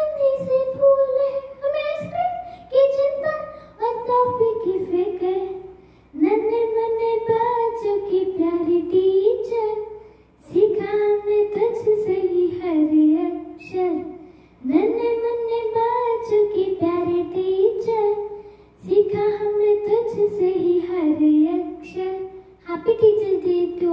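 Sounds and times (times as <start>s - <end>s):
girl singing: 0.0s - 23.9s.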